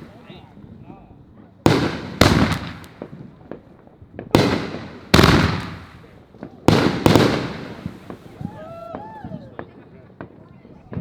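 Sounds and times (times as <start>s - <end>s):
fireworks bangs with rumble: 0.0s - 11.0s
small fireworks crackles: 0.0s - 11.0s.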